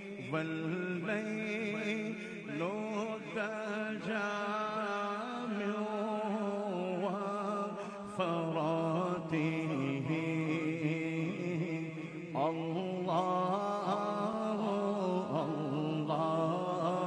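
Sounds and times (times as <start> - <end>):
person chanting a melody: 0.0 - 17.0.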